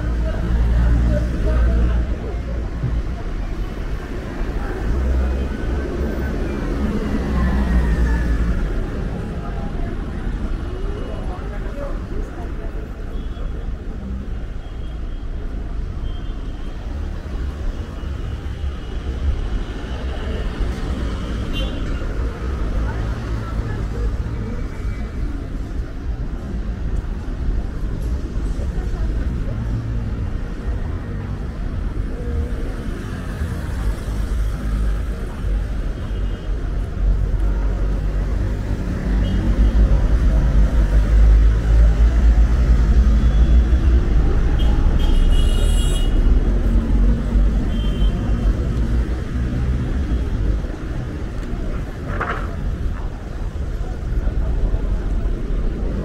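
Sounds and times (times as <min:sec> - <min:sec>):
street traffic rumble: 0:00.0 - 0:56.0.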